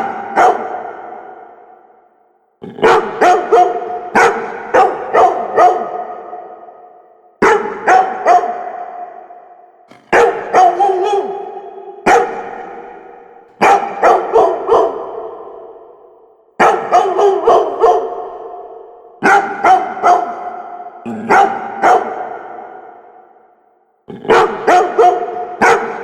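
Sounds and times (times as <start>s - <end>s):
dog barking with echo: 0.0s - 26.0s.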